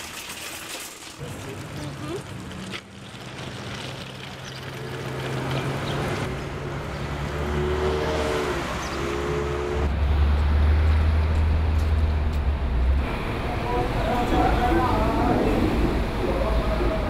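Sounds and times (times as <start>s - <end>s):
street traffic noise: 1.2s - 17.0s
vehicle engine rumble: 1.2s - 17.0s.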